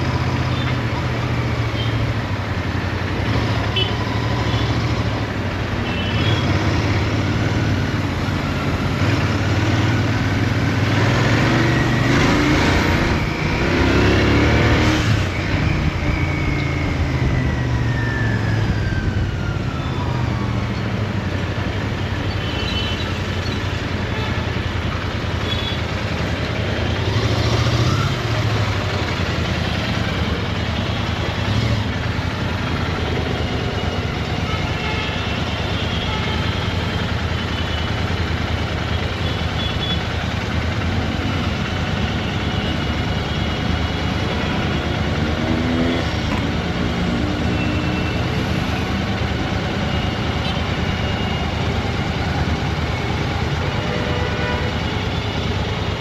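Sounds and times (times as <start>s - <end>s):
traffic noise: 0.0s - 56.0s.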